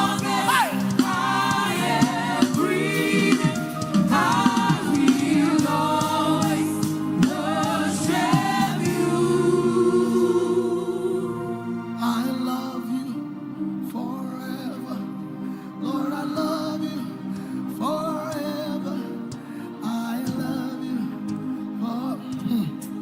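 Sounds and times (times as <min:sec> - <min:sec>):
held chords: 0:00.0 - 0:22.7
gospel choir singing: 0:00.0 - 0:23.0.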